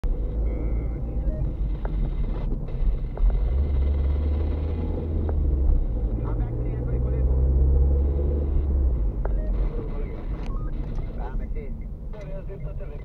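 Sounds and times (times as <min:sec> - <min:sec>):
car rumbling on rough road: 0:00.0 - 0:13.0.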